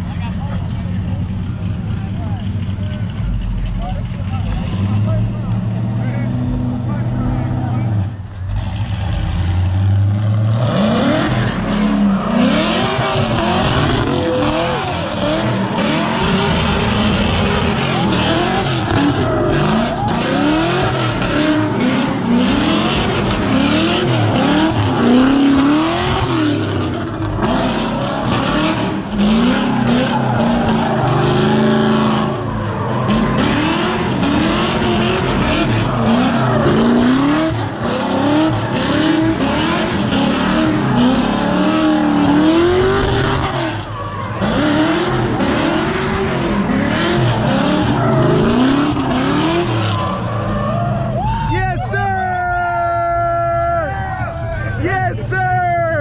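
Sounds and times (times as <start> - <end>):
car engine revving: 0.0 - 51.4.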